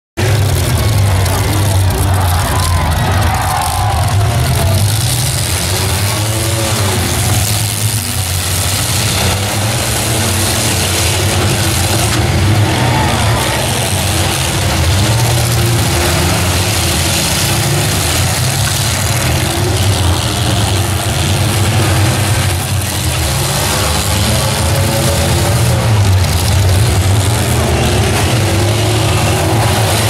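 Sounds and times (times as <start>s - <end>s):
many truck engines revving: 0.1s - 30.0s.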